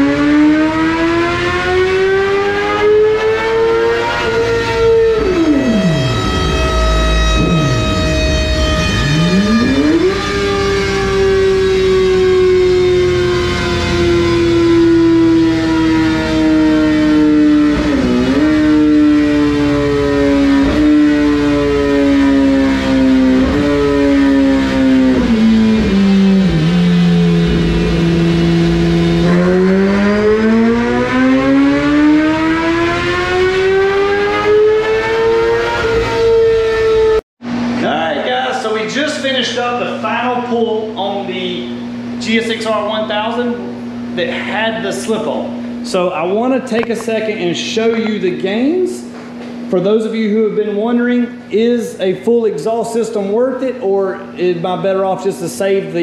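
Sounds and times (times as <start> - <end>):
motorcycle engine revving on dyno: 0.0 - 52.2.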